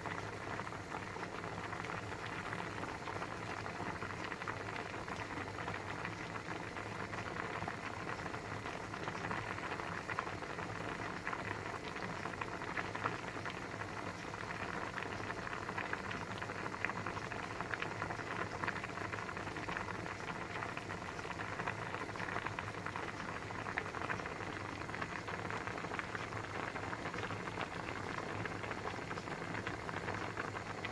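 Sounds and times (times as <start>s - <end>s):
water boiling in a pot: 0.0s - 30.9s.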